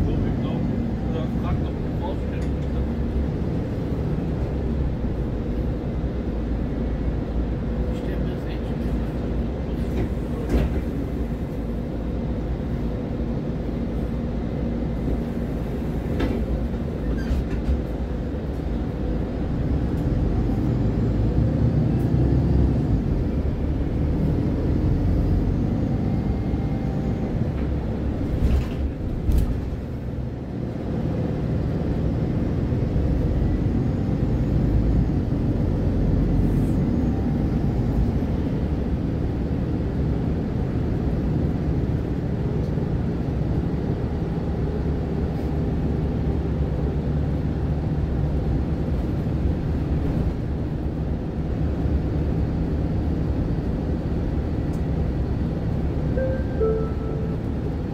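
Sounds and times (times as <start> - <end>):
bus engine rumble: 0.0 - 57.9.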